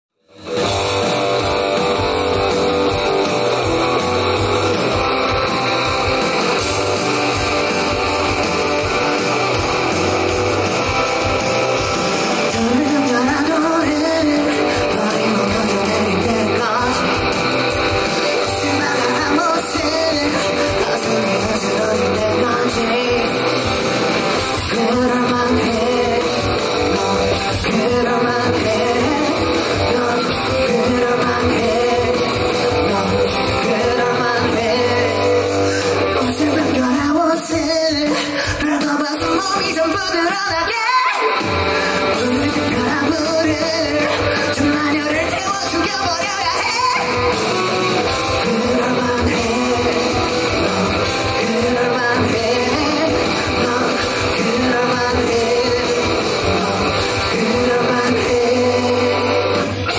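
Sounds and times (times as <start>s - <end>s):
live rock band with electric guitar: 0.1s - 59.9s
person singing: 0.6s - 59.9s.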